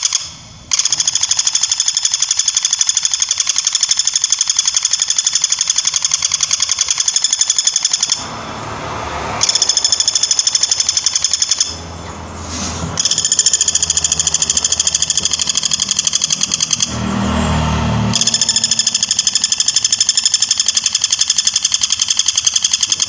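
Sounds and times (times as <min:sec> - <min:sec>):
woodpecker rattling call: 0:00.0 - 0:08.2, 0:09.4 - 0:11.8, 0:13.0 - 0:16.9, 0:18.2 - 0:23.0.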